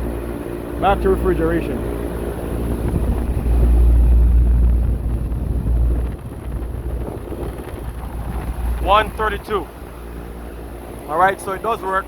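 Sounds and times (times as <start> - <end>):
air conditioning unit running: 0.0 - 12.0
wind buffeting microphone: 0.0 - 12.0.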